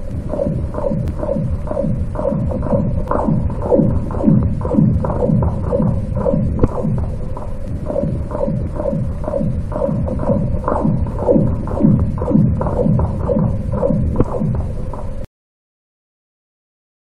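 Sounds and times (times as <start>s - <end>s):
low hum: 0.0s - 15.3s.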